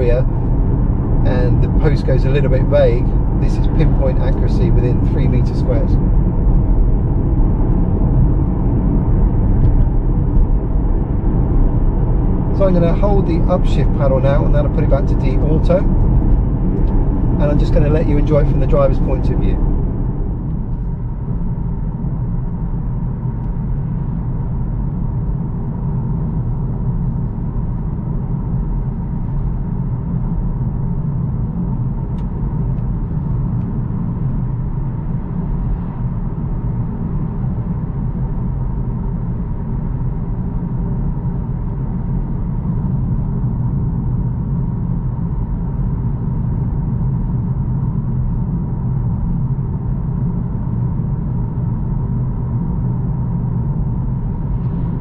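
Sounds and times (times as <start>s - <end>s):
car drivetrain noise: 0.0s - 55.0s
road and tyre rumble: 0.0s - 55.0s.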